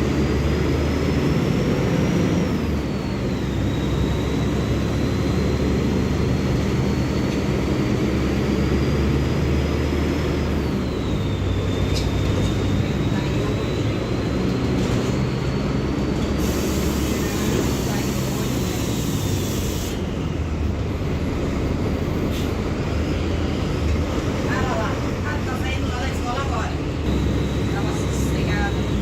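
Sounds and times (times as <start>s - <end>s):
bus diesel engine drone: 0.0s - 29.0s
high engine whine: 0.0s - 29.0s.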